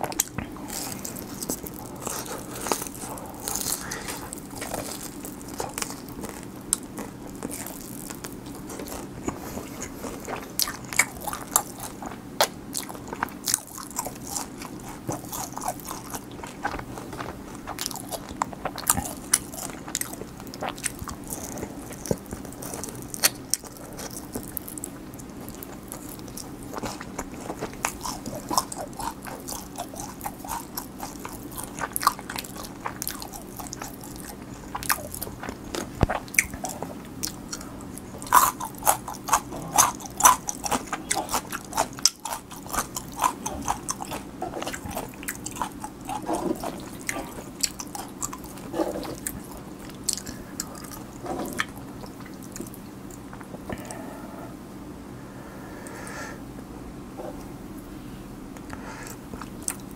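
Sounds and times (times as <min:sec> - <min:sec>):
crunching fried chicken: 0:00.0 - 0:54.0
faint low hum: 0:00.0 - 0:59.9.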